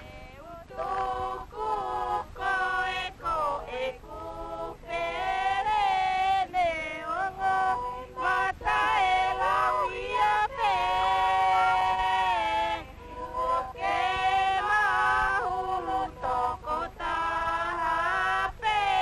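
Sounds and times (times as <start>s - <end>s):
women singing in harmony: 0.0s - 19.0s.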